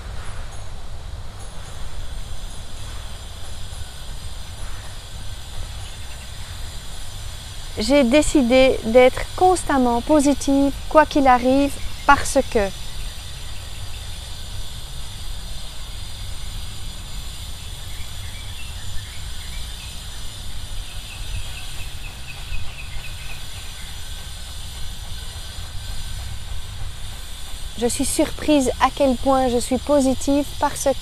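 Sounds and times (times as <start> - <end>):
even hiss: 0.0 - 31.0.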